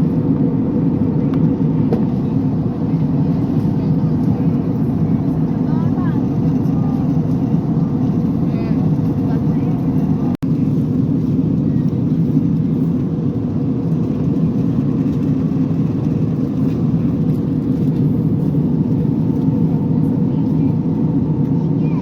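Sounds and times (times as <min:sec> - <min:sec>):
jet engine cabin noise: 0:00.0 - 0:22.0.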